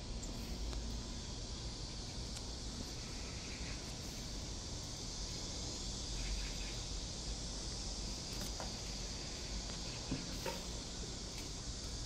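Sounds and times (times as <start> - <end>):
faint high hiss: 0.0 - 12.0.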